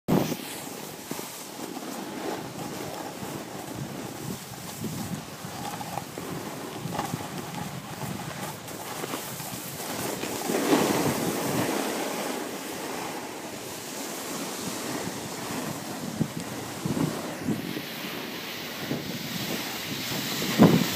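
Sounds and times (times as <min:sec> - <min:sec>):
wind on microphone: 0:00.1 - 0:01.2, 0:02.2 - 0:20.9
snowboards sliding over snow: 0:00.1 - 0:20.9.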